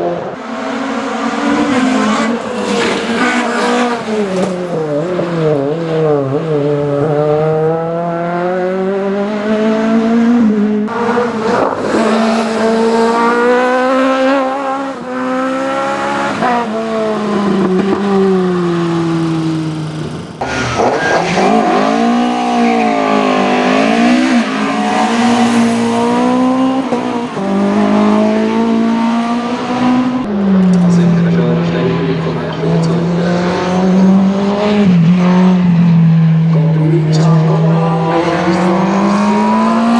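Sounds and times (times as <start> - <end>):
race car engine at full throttle: 0.0 - 39.9
race car revving: 0.0 - 39.9.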